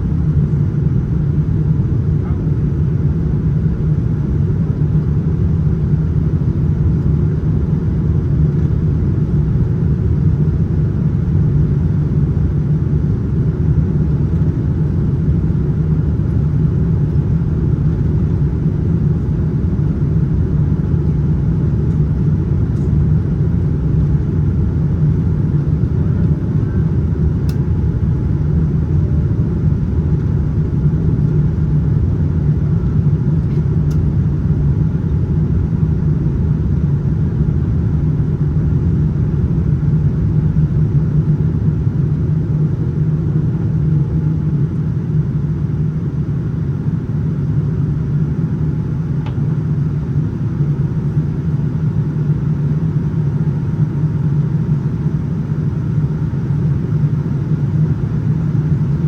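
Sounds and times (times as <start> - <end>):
airliner cabin engine roar: 0.0 - 59.0.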